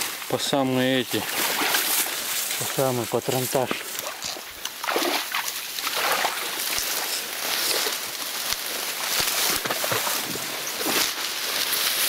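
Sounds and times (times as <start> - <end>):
grass rustling against clothing: 0.0 - 12.0.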